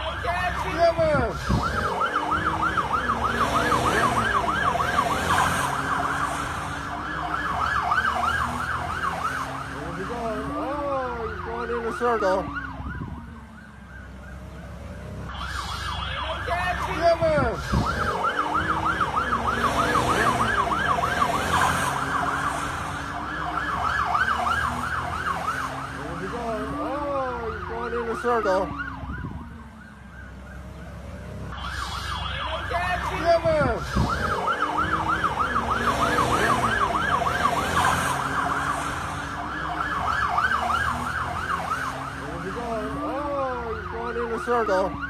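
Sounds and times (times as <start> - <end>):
police siren yelp: 0.0 - 45.0
traffic noise: 0.0 - 45.0.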